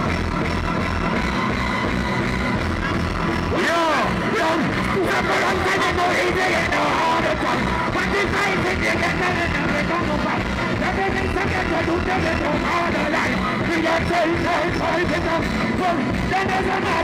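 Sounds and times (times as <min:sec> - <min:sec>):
reggae band playing: 0:00.0 - 0:17.0.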